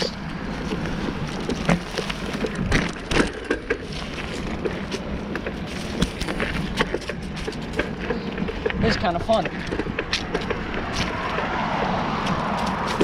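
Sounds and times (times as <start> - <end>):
bicycle clicks and rattles: 0.0 - 13.0
tyre and wind rumble: 0.0 - 13.0.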